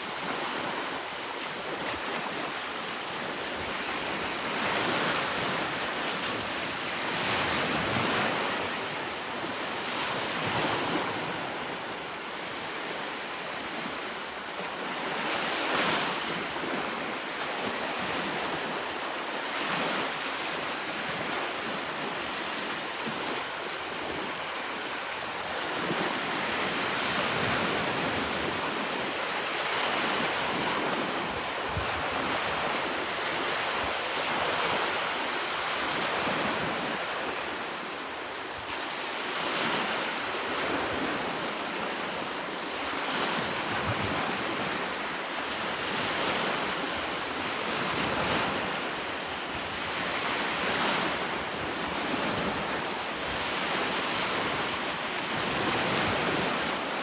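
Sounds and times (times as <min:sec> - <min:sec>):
sea waves washing onto shore: 0:00.0 - 0:57.0
wind: 0:00.0 - 0:57.0.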